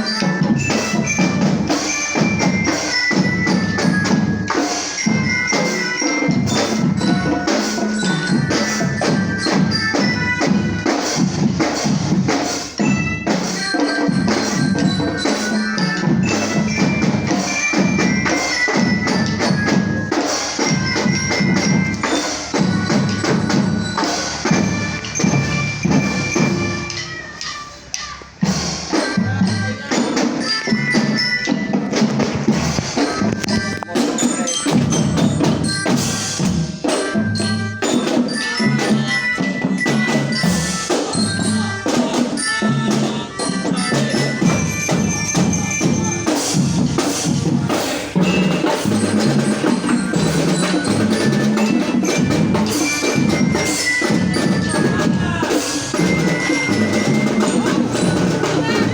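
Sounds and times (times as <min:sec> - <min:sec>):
glockenspiel melody: 0:00.0 - 0:58.9
marching drums: 0:00.0 - 0:58.9.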